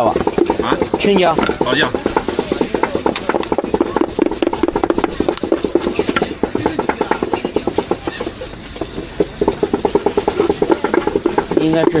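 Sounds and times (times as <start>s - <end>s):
cleaver chopping on wooden board: 0.0s - 12.0s.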